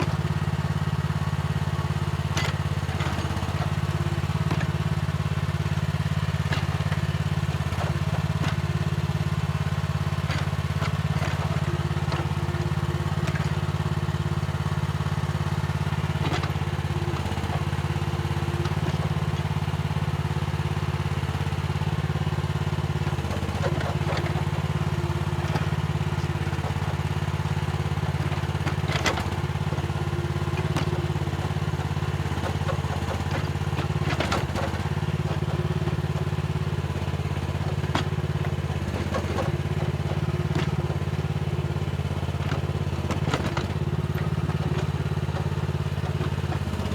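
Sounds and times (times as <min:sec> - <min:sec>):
diesel engine running: 0:00.0 - 0:46.9
excavator clanks and knocks: 0:00.0 - 0:46.9.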